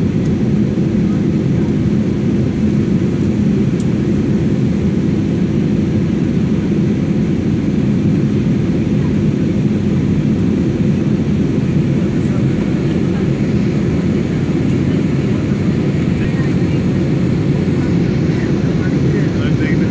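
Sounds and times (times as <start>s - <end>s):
jet engines low rumble: 0.0s - 19.9s.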